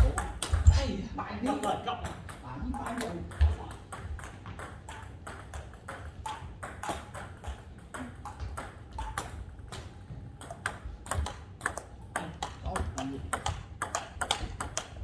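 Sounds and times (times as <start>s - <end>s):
table tennis balls clicking: 0.0s - 15.0s.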